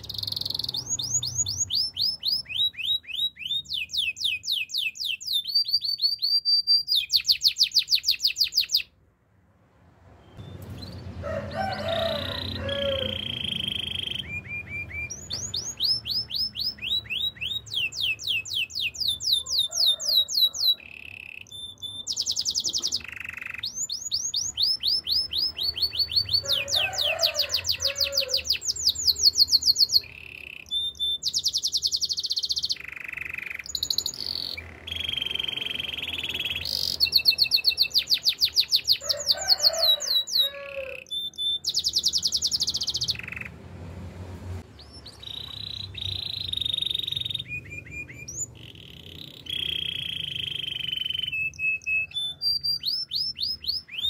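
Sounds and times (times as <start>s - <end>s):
canary singing trills: 0.0s - 9.0s, 10.1s - 43.6s, 44.7s - 54.0s.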